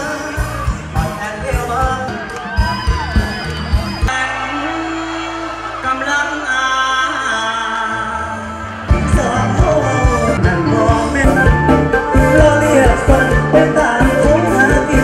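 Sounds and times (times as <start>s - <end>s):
live band music over pa: 0.0s - 15.0s
person singing: 0.0s - 15.0s.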